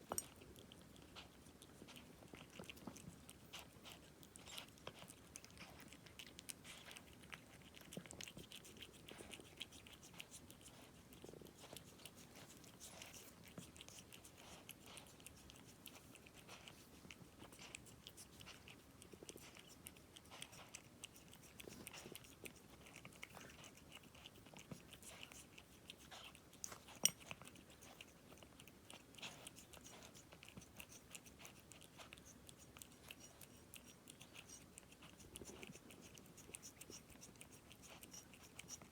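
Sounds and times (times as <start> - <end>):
cat chewing crunchily: 0.0 - 38.9.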